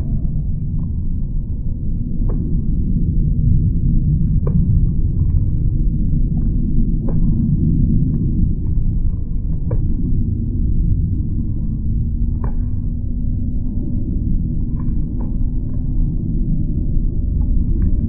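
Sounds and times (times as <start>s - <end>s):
jet engine deep rumble: 0.0s - 18.0s.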